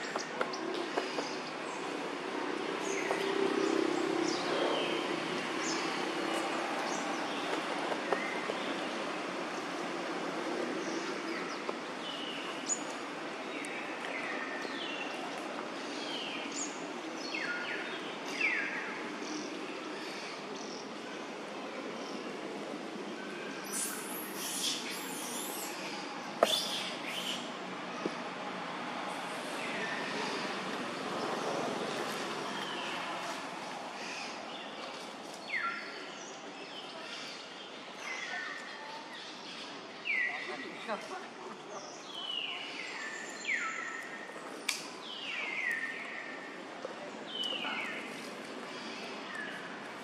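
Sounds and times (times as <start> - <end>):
outdoor background noise: 0.0 - 50.0.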